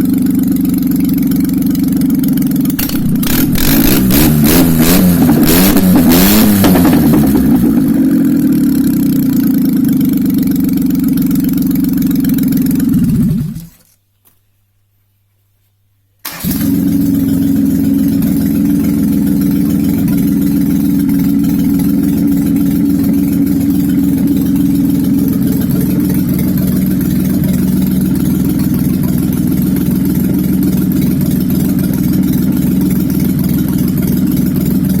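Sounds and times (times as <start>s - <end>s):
car engine running steadily: 0.0s - 13.8s, 16.4s - 35.0s.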